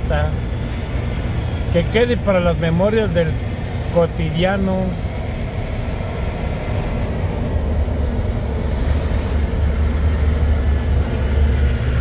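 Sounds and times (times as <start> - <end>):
car cabin engine and tyre rumble: 0.0 - 12.0.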